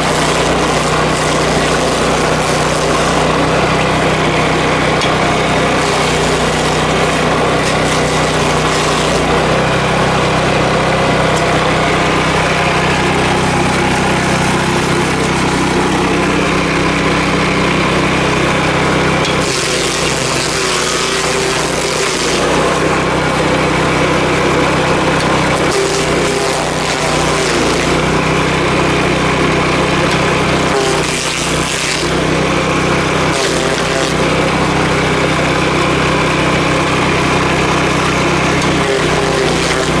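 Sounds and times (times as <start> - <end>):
stump grinder engine running: 0.0 - 40.0.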